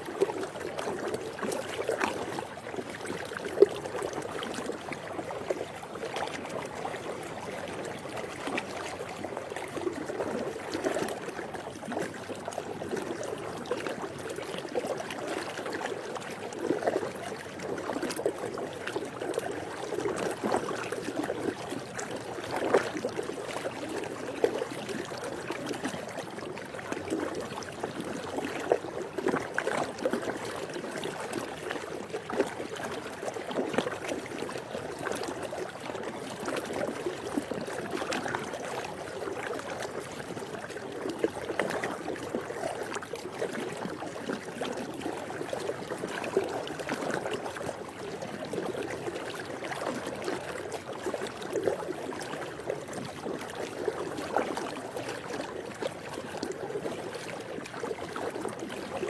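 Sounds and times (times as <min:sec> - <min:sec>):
pool water lapping: 0:00.0 - 0:59.0
small water splashes: 0:00.0 - 0:59.0.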